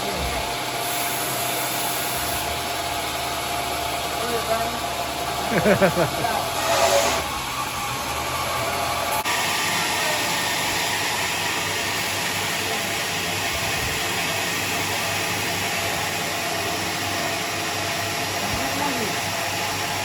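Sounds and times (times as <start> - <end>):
sawmill saw running: 0.0 - 20.0.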